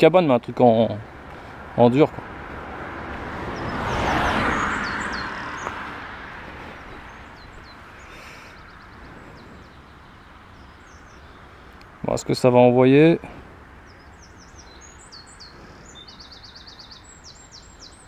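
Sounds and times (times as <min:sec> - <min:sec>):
small birds chirping: 0:00.1 - 0:18.0
vehicle tyre noise passing: 0:00.6 - 0:18.0.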